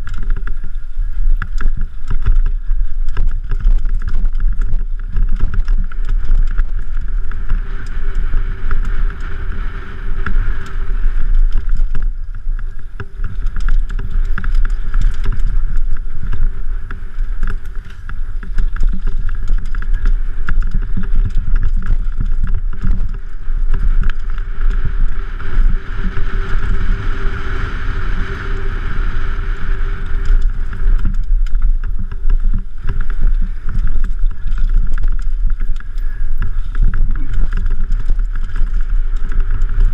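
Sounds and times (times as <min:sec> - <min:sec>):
mountain bike rattling on trail: 0:00.0 - 0:39.9
tyres rolling over dirt: 0:00.0 - 0:39.9
wind buffeting the microphone: 0:00.0 - 0:39.9.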